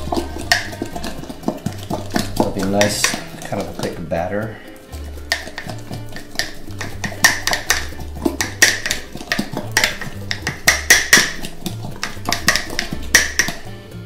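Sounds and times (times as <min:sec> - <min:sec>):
utensil clinking against jar: 0:00.0 - 0:13.8.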